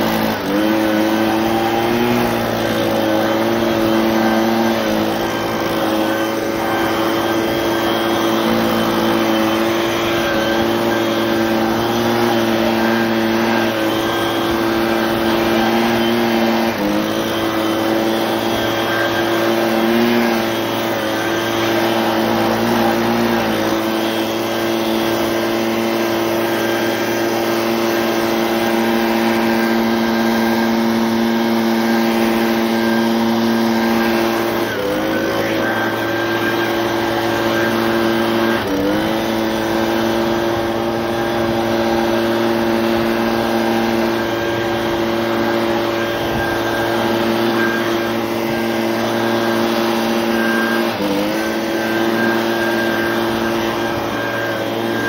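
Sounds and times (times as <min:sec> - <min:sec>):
leaf blower engine: 0:00.0 - 0:55.0.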